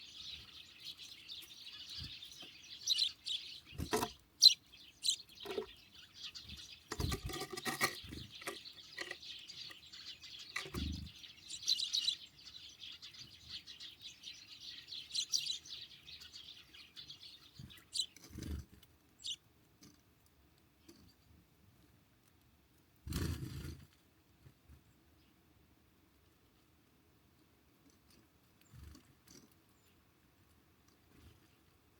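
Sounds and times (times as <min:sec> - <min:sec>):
songbirds chirping: 0:00.0 - 0:31.9.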